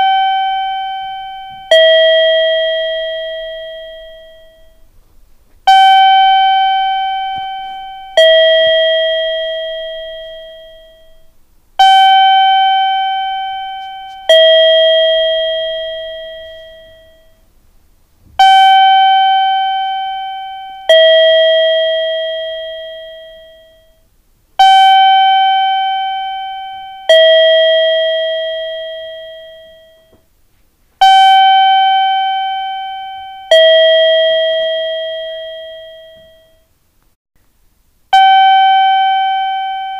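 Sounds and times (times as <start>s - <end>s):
two-note electronic chime: 0.0s - 4.9s, 5.7s - 17.4s, 18.4s - 24.0s, 24.6s - 30.2s, 31.0s - 36.7s, 38.2s - 39.9s.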